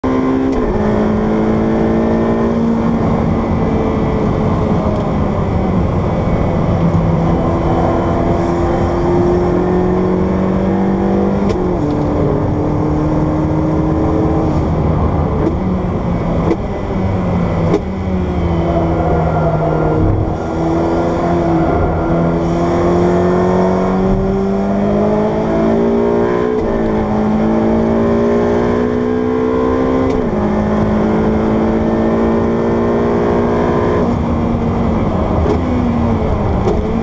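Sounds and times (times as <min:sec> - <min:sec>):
car engine revving hard: 0:00.0 - 0:04.8, 0:05.8 - 0:15.6, 0:17.2 - 0:37.0.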